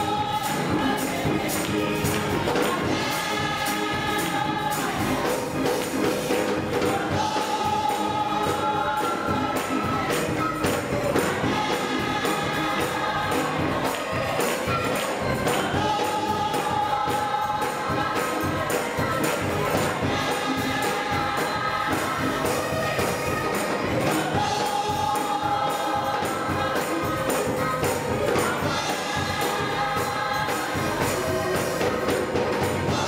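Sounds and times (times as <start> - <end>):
gospel choir singing in harmony: 0.0 - 33.0
jingling percussion: 0.0 - 33.0.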